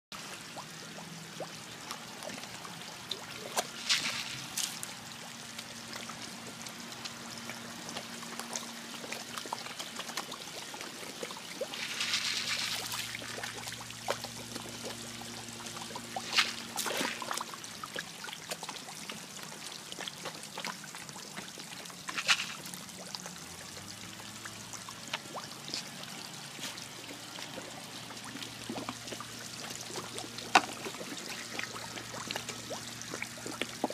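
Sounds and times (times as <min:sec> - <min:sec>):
pond water trickling: 0:00.2 - 0:33.9
fish splashing at the surface: 0:01.4 - 0:06.3, 0:07.1 - 0:19.2, 0:19.9 - 0:33.9.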